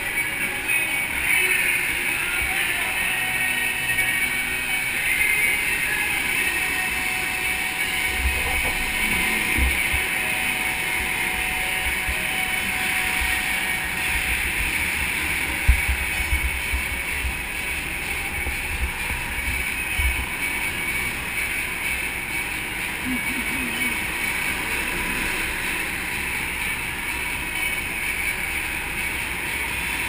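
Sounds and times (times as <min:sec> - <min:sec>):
go-kart engine: 0:00.0 - 0:30.0.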